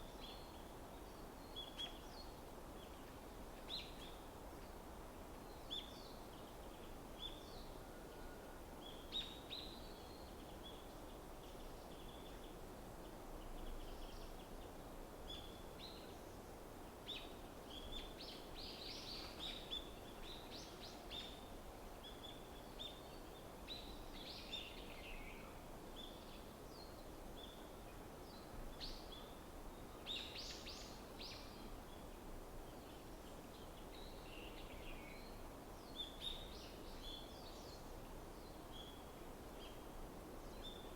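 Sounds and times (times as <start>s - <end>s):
low background noise: 0.0s - 40.9s.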